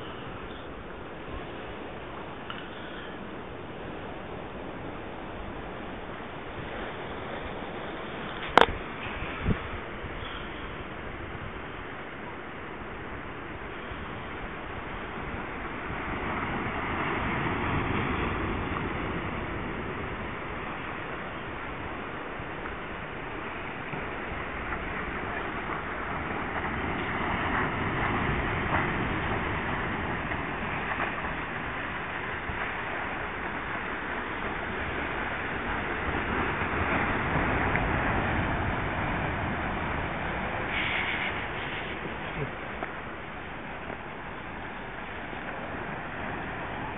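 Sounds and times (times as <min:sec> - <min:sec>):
sea surf breaking: 0:00.0 - 0:46.9.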